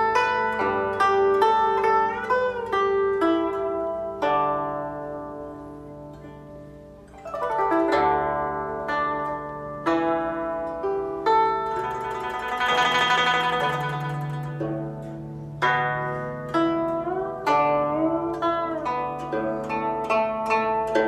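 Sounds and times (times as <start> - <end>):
plucked zither music: 0.0 - 21.0.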